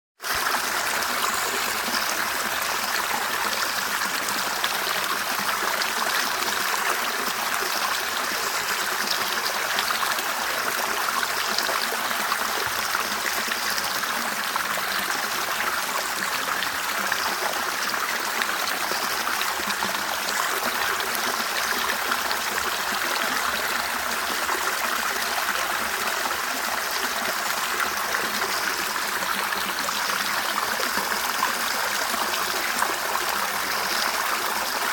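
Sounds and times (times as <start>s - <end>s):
river water flowing over stones: 0.2s - 34.9s.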